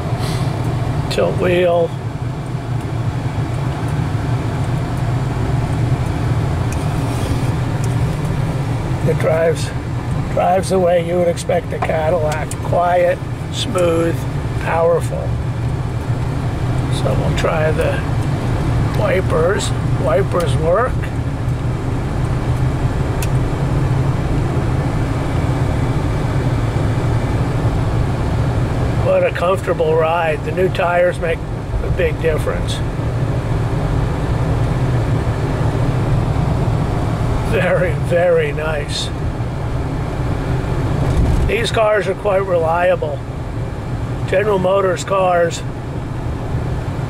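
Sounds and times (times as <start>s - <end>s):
car engine running: 0.0s - 47.0s
road noise: 0.0s - 47.0s.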